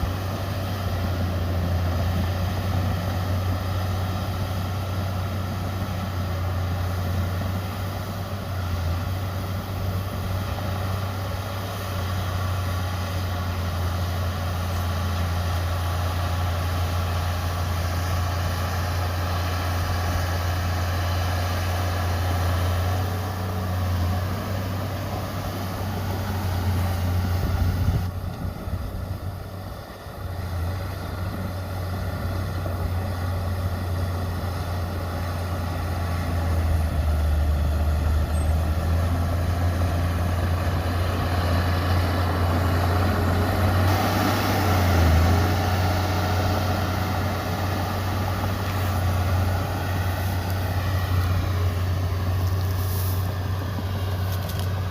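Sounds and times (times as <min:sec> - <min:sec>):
heavy diesel machinery drone: 0:00.0 - 0:54.9.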